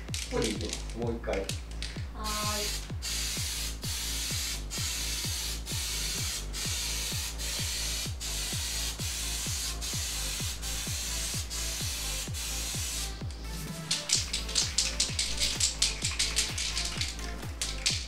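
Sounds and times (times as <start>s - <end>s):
aerosol spray can hissing: 2.2s - 18.0s.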